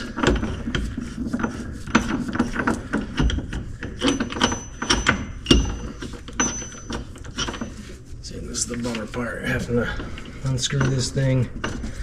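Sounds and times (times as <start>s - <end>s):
hand tools clicking and clanking: 0.0s - 12.0s.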